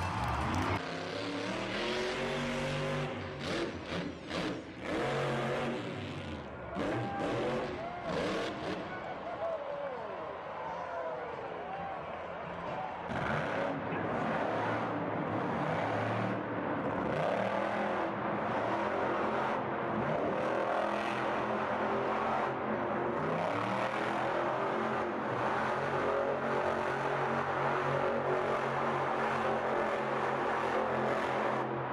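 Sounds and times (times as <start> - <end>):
monster truck engine revving: 0.0 - 9.3, 12.4 - 31.9.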